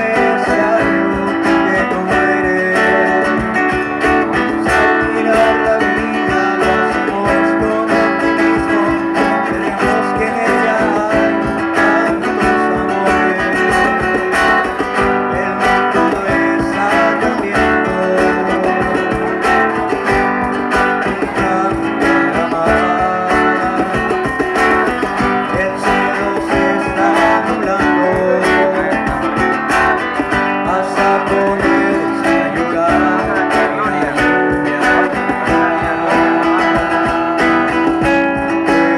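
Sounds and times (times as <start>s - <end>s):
guitar plucked and strummed: 0.0s - 38.9s.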